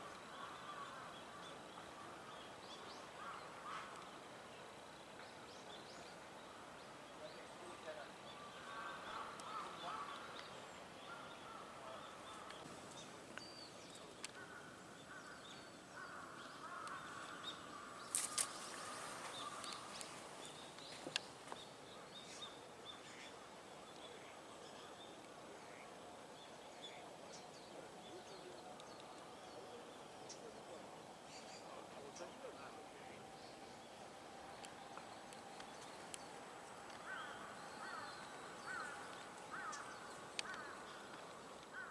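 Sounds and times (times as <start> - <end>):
distant small-bird calls: 0.0 - 41.9.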